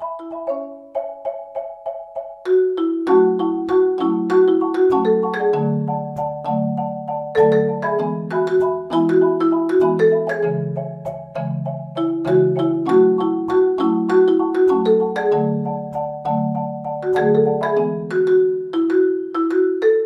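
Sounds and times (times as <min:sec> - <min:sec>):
melody of struck notes: 0:00.0 - 0:20.0.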